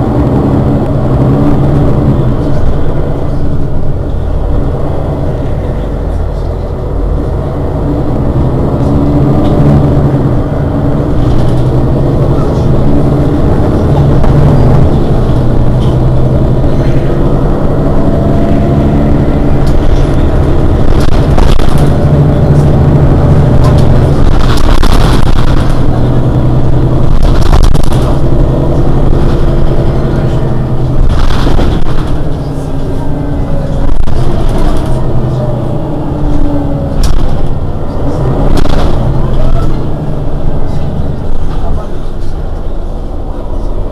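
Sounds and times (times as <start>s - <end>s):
bus engine idling: 0.0s - 43.9s.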